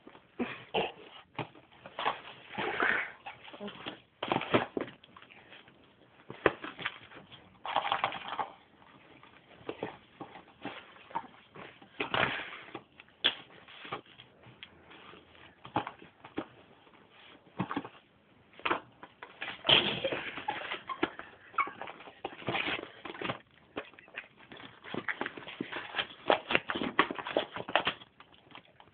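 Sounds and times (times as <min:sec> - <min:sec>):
cardboard box and wrappers rustling: 0:01.2 - 0:28.9.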